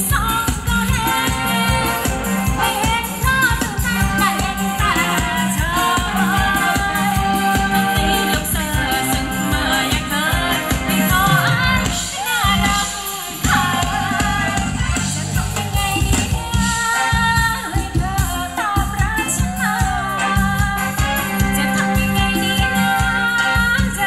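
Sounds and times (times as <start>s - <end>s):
live band playing dance music: 0.0s - 24.0s
person singing: 0.0s - 24.0s.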